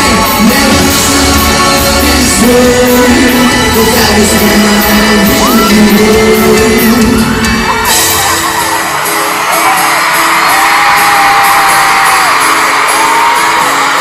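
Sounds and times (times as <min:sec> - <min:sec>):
audience screaming and cheering: 0:00.0 - 0:14.0
live pop band playing: 0:00.0 - 0:14.0.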